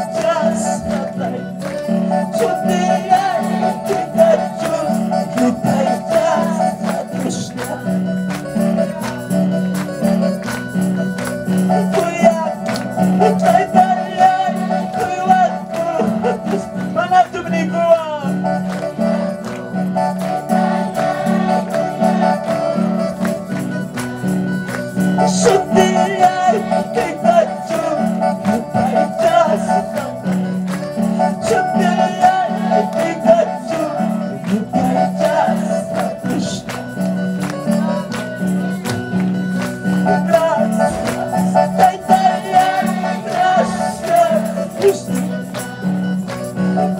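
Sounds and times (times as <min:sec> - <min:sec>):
voices singing: 0:00.0 - 0:09.4, 0:11.7 - 0:17.4, 0:18.8 - 0:23.4, 0:25.2 - 0:39.3, 0:40.0 - 0:46.2
tambourine jingling: 0:00.0 - 0:46.9
worship band with keyboard: 0:00.0 - 0:46.9.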